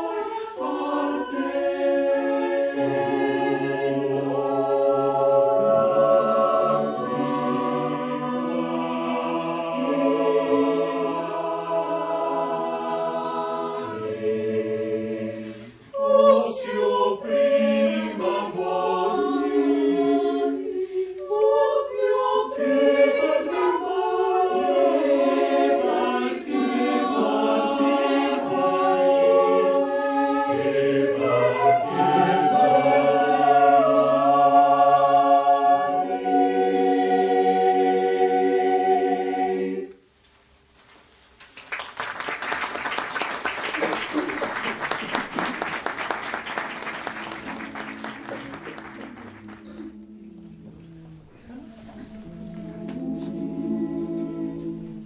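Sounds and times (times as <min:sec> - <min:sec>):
choir singing a cappella: 0:00.0 - 0:40.0, 0:44.2 - 0:55.0.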